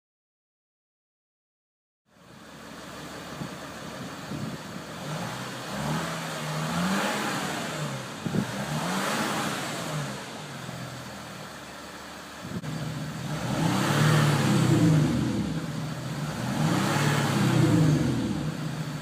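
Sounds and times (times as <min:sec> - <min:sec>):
car engine revving: 0:03.0 - 0:19.0.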